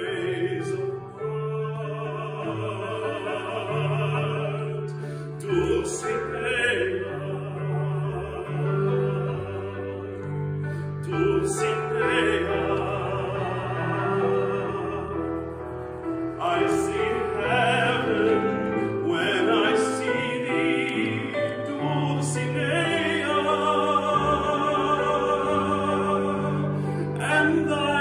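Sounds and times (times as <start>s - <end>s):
man singing operatically: 0.0s - 10.2s, 11.0s - 15.3s, 16.4s - 28.0s.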